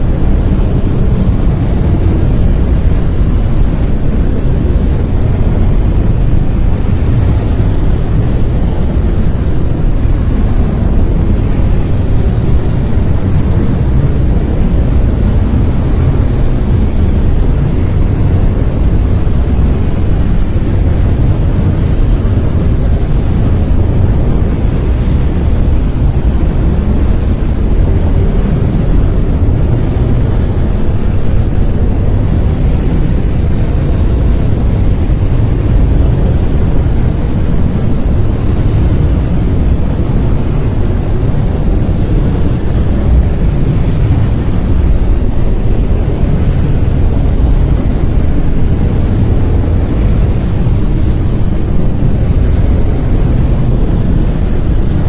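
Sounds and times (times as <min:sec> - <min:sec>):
deep rumbling brown noise: 0:00.0 - 0:55.0.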